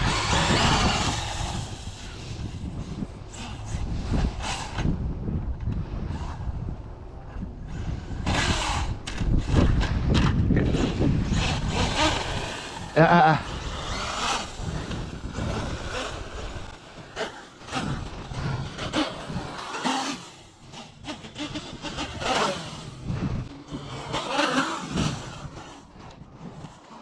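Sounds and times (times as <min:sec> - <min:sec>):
rc truck motor whining: 0:00.0 - 0:27.0.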